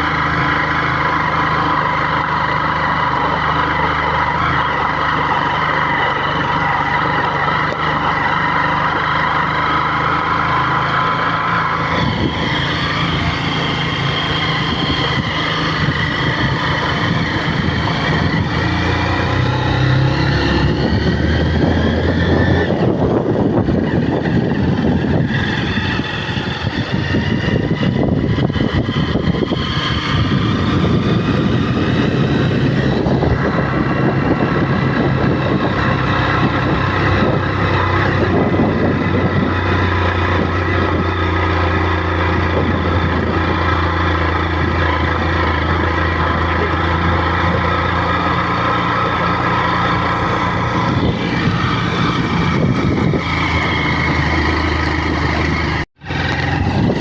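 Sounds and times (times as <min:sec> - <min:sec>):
rough noise: 0:00.0 - 0:57.0
vehicle engine rumble: 0:00.0 - 0:57.0.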